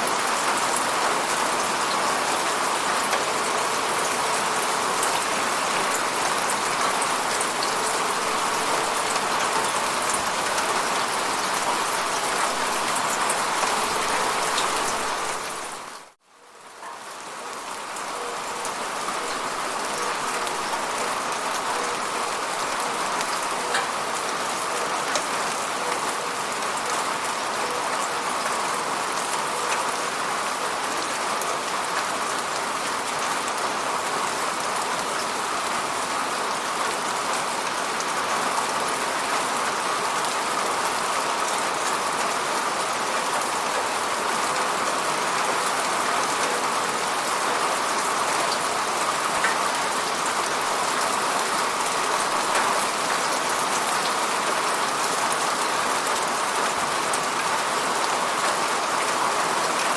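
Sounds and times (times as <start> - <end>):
steady falling rain: 0.0 - 59.9.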